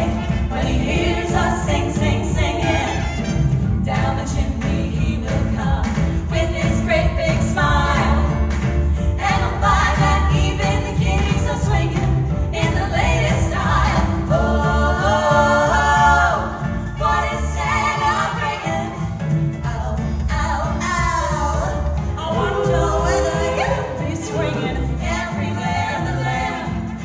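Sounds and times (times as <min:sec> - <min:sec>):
vocal group singing: 0:00.0 - 0:27.0.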